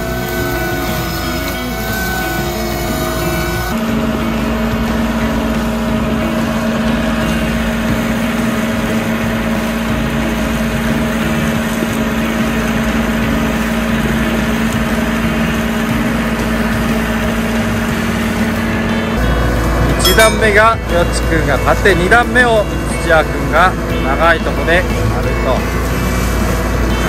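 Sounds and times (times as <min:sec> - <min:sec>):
mower spinning through grass: 0:00.0 - 0:27.0
tractor diesel engine running: 0:00.0 - 0:27.0.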